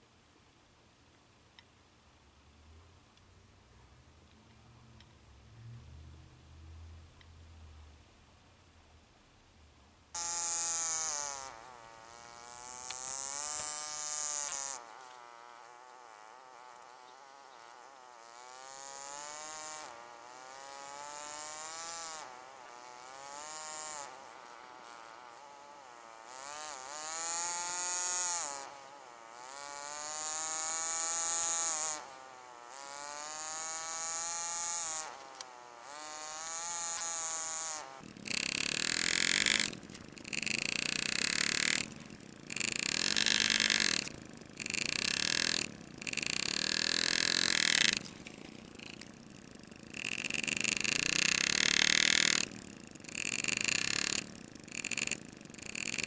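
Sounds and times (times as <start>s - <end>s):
engraving handpiece buzzing: 10.2s - 56.0s.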